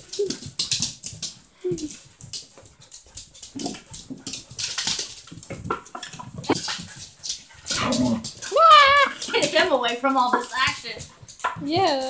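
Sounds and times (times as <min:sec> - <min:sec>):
paws scuffling and clicking on floor: 0:00.0 - 0:12.0.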